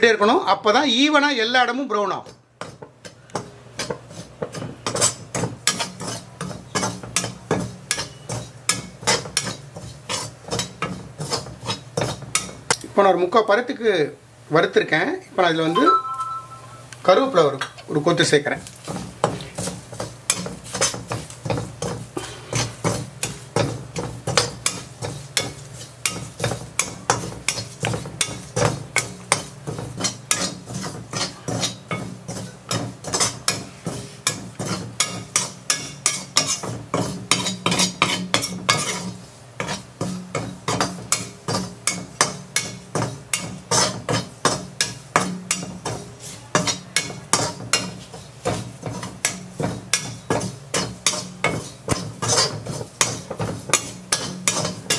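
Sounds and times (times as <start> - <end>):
spatula scraping and stirring: 2.1 - 13.2, 17.4 - 54.9.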